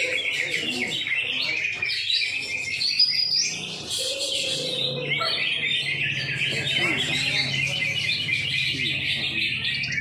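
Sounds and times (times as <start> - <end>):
caged birds singing in chorus: 0.0 - 10.0.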